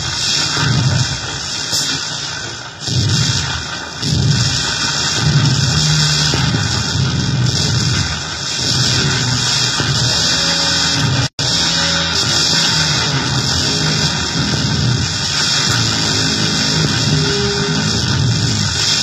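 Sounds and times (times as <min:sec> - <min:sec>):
harsh distorted noise: 0:00.0 - 0:19.0
low throbbing: 0:00.0 - 0:19.0.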